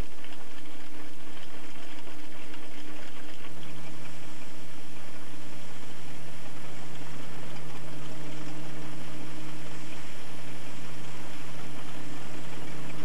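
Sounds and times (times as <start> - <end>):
steam engine humming and hissing: 0.0 - 13.0.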